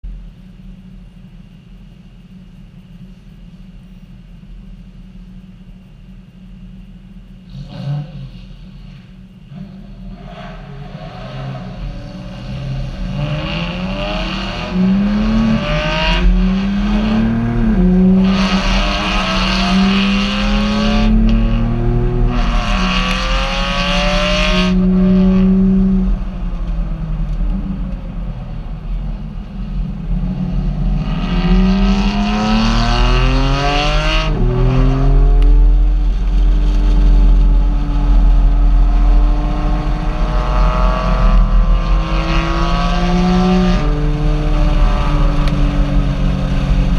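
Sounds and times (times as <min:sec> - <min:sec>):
road rumble: 0:00.0 - 0:46.9
car engine accelerating: 0:07.5 - 0:46.9.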